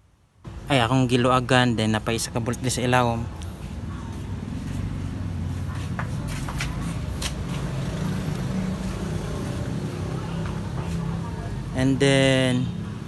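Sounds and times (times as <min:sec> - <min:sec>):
vehicle engine humming: 0:01.9 - 0:13.0.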